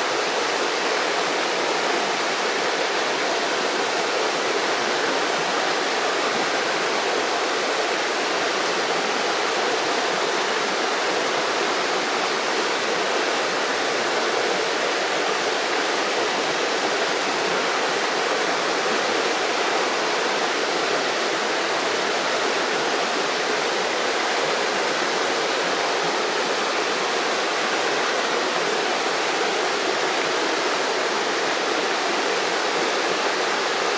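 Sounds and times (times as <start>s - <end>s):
river water rushing over stones: 0.0s - 33.9s.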